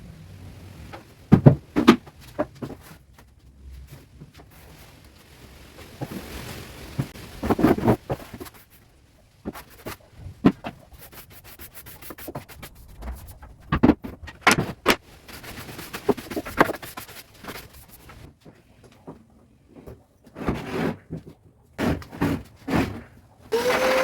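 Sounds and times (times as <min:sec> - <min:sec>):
rubbing and scraping: 0:01.8 - 0:24.0.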